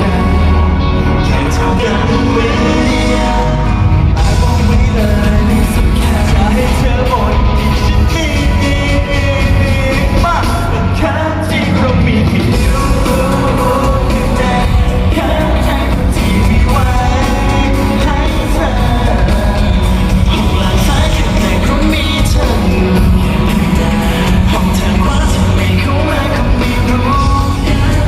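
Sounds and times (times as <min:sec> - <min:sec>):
live pop band with male vocal: 0:00.0 - 0:28.0.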